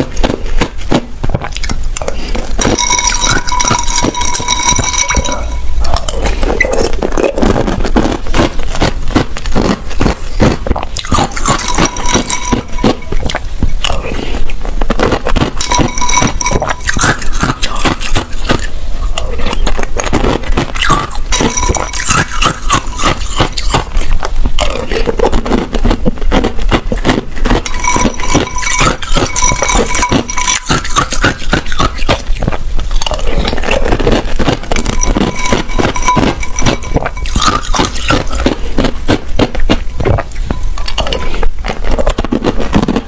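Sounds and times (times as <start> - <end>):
ice crunching between teeth: 0.0 - 43.0.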